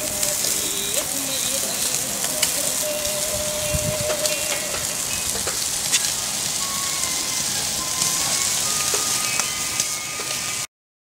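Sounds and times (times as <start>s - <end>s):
meat sizzling on a grill: 0.0s - 10.7s.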